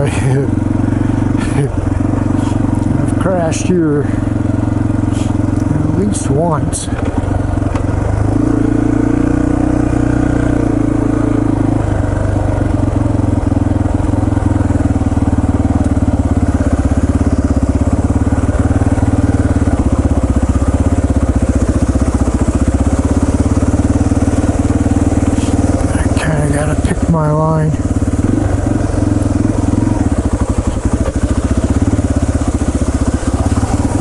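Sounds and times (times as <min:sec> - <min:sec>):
motorbike engine chugging: 0:00.0 - 0:34.0.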